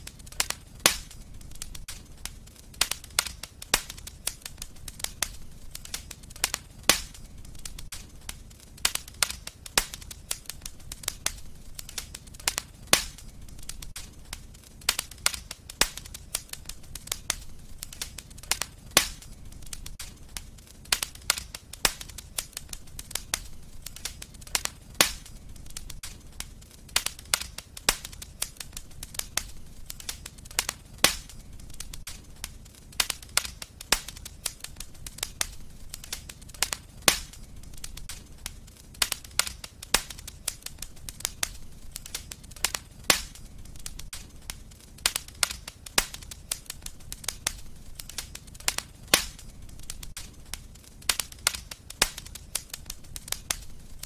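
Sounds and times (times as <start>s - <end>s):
wood fire crackling: 0.0s - 54.0s
loud sharp pop of fire: 0.1s - 14.2s, 14.9s - 20.2s, 20.8s - 53.7s.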